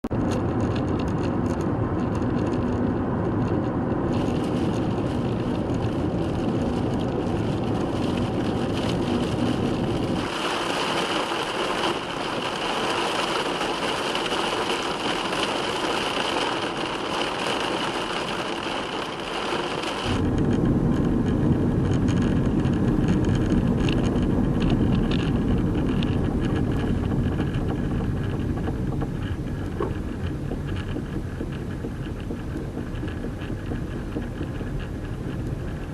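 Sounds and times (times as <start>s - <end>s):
car driving slowly: 0.0s - 35.9s.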